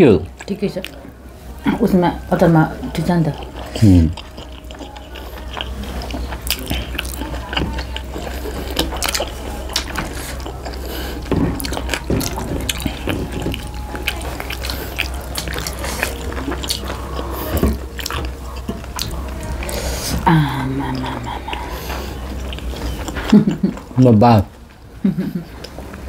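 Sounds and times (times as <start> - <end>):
steady low hum: 0.0 - 26.0
chewing and lip smacking: 2.9 - 24.0.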